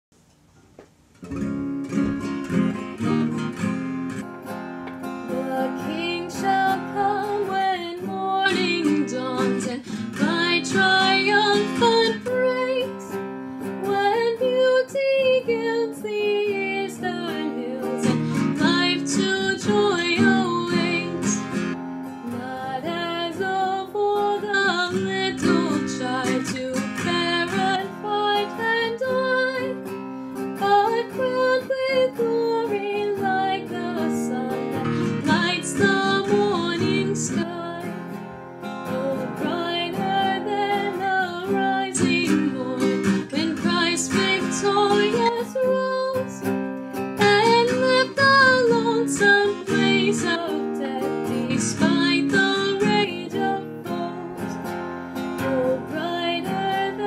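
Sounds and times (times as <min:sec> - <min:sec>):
strummed acoustic guitar: 0:01.2 - 0:57.0
woman singing a hymn: 0:05.3 - 0:13.2, 0:13.8 - 0:21.4, 0:22.2 - 0:29.9, 0:30.6 - 0:38.0, 0:38.9 - 0:46.4, 0:47.2 - 0:54.6, 0:55.4 - 0:57.0.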